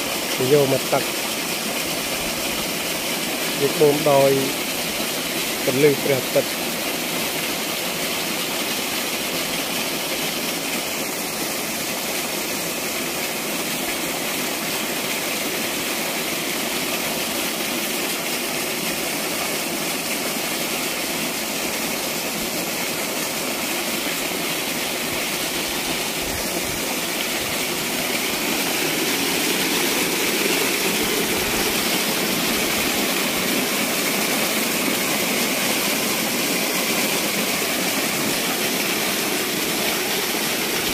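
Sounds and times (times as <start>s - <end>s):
water gushing into tank: 0.0s - 40.9s.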